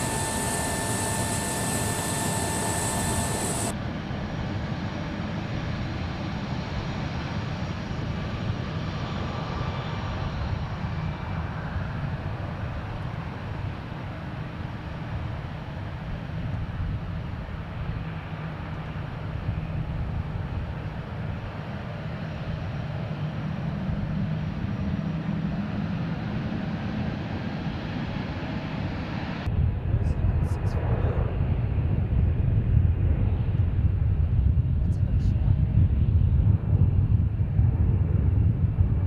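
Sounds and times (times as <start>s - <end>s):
aircraft engines rumbling: 0.0s - 39.0s.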